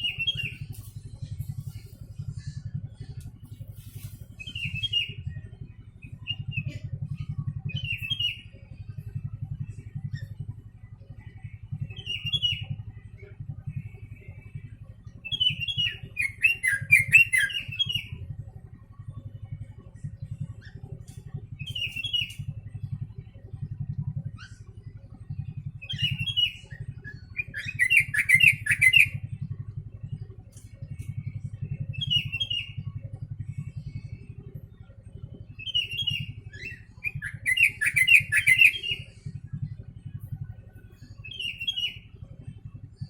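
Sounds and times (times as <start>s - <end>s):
bird chirping song: 0.0s - 43.0s
steady low hum: 0.0s - 43.0s.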